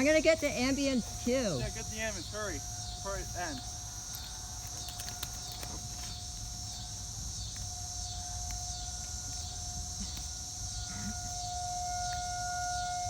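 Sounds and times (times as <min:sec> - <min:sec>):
distant warning siren: 0:00.0 - 0:13.0
insects chirping: 0:00.0 - 0:13.0.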